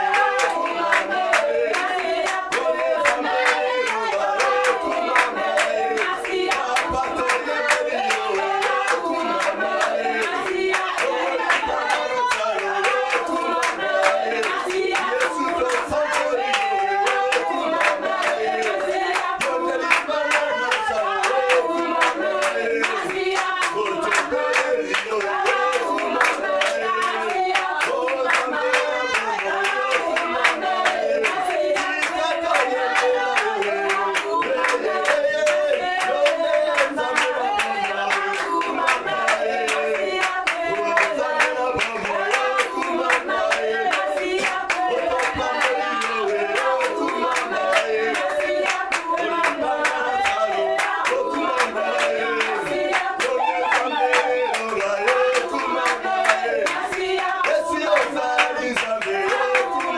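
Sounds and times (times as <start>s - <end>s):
congregation singing: 0.0s - 59.9s
people clapping along: 0.0s - 59.9s.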